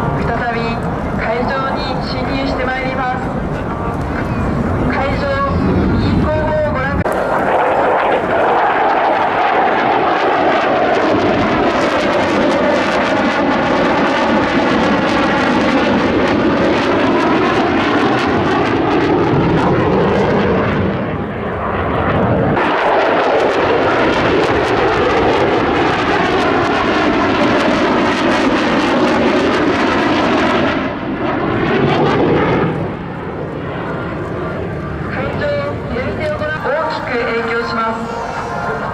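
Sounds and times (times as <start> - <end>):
jet flying past: 0.0 - 38.9.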